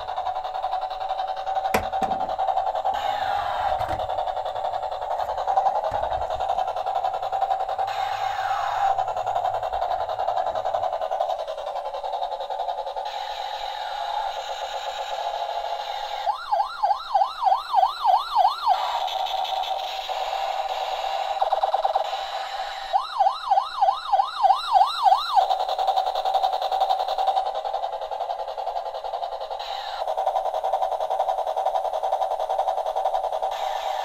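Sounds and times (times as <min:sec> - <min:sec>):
toy helicopter electronic tone: 0:00.1 - 0:10.8, 0:13.0 - 0:17.1, 0:18.1 - 0:27.5, 0:28.5 - 0:30.9, 0:33.2 - 0:34.0
toy warbling siren: 0:00.1 - 0:11.6, 0:13.1 - 0:30.3, 0:33.5 - 0:34.0.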